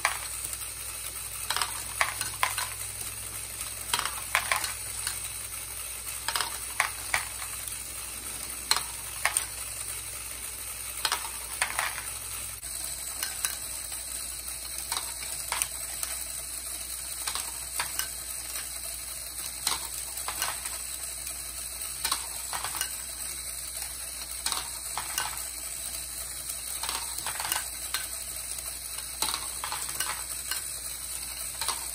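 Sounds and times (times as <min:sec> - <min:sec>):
plastic balls clicking and clattering: 0:00.0 - 0:31.9
steady hiss: 0:00.0 - 0:31.9.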